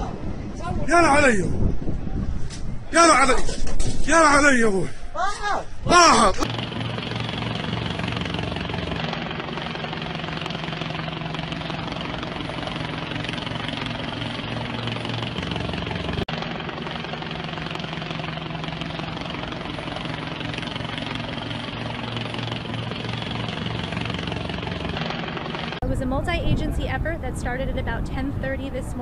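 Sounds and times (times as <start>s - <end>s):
engine drone: 5.7s - 29.0s.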